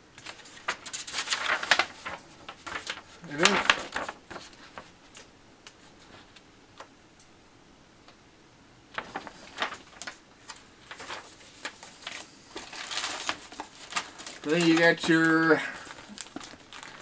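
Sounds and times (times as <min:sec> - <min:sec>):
paper rustling and crackling: 0:00.2 - 0:06.9, 0:08.9 - 0:17.0.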